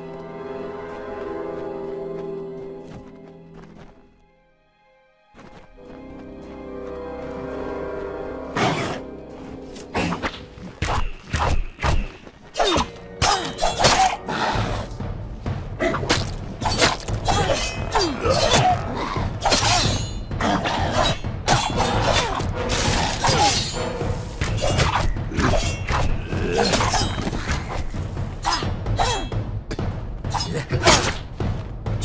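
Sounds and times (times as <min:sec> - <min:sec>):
background game music: 0:00.0 - 0:32.0.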